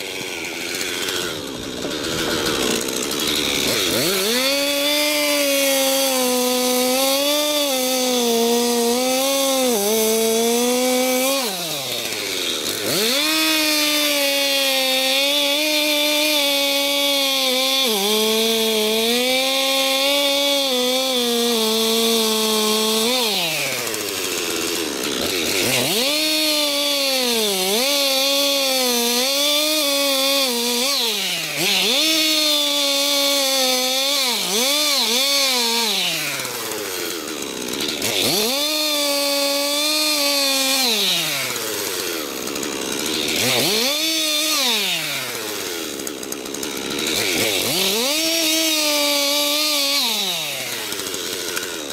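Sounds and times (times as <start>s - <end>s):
chainsaw revving cutting wood: 0.0s - 51.9s.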